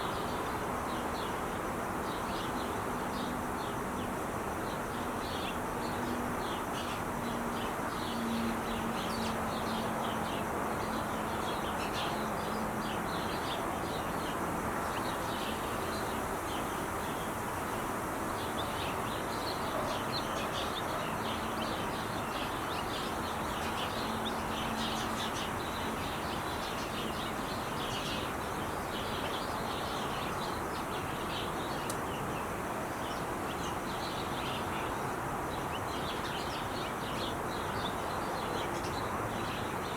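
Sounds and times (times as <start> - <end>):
freeway traffic roar: 0.0 - 39.9.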